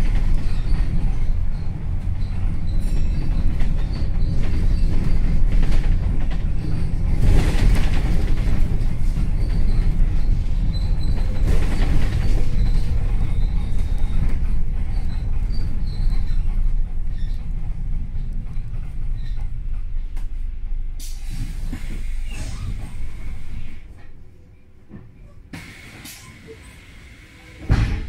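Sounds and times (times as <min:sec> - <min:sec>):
rattles and creaks: 0:00.0 - 0:24.2
bus interior rumble: 0:00.0 - 0:28.0.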